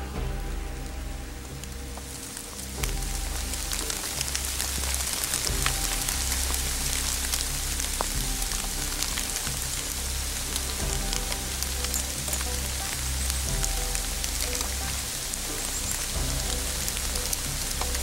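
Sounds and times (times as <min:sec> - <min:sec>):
background music with bass line: 0:00.0 - 0:18.0
rain falling on leaves: 0:00.0 - 0:18.0.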